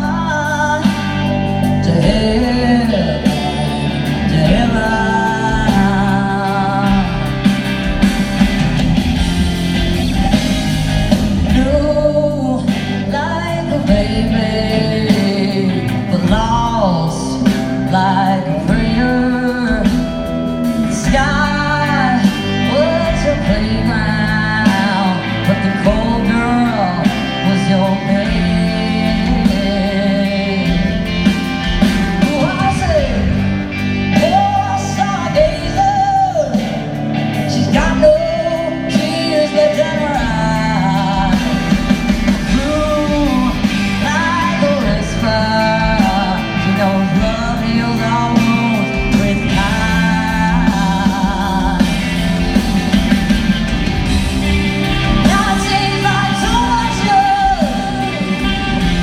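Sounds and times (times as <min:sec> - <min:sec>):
female lead vocal: 0:00.0 - 0:09.3, 0:11.1 - 0:59.0
live rock band playing: 0:00.0 - 0:59.0.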